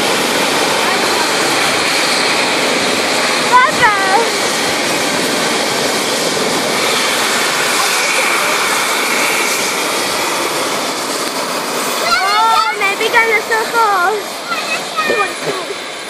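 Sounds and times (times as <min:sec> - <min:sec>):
helicopter running: 0:00.0 - 0:16.0.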